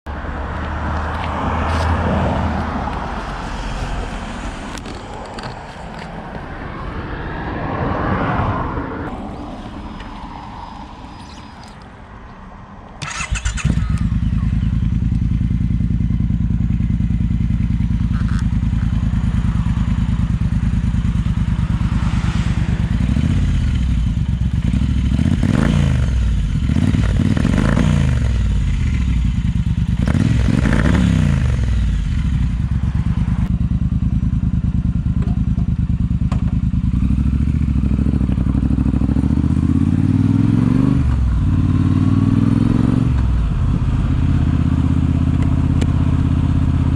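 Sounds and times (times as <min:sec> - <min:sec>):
motorcycle engine idling and revving: 0:00.1 - 0:07.4, 0:08.8 - 0:46.9.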